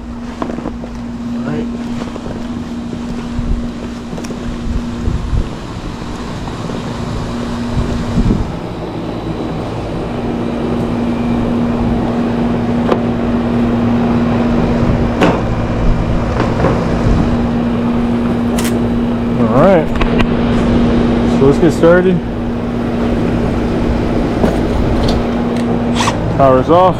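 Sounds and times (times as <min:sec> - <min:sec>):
low rumble: 0:00.0 - 0:26.4
air conditioning unit humming: 0:00.0 - 0:26.9.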